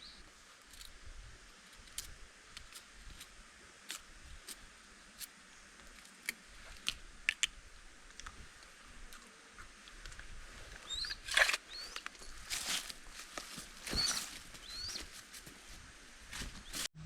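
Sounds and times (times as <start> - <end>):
rustle: 0.0 - 16.9.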